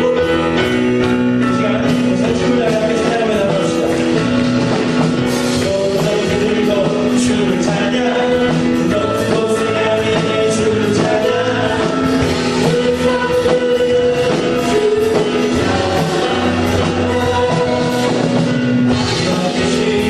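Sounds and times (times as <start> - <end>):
band playing worship song: 0.0 - 20.0
people singing: 0.0 - 20.0
drum beat: 1.1 - 20.0.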